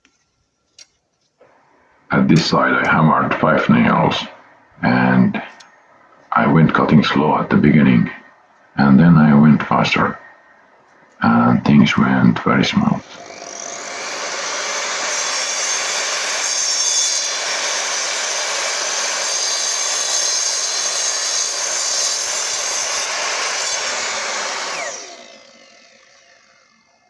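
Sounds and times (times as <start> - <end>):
mitre saw cutting wood: 1.4 - 27.0.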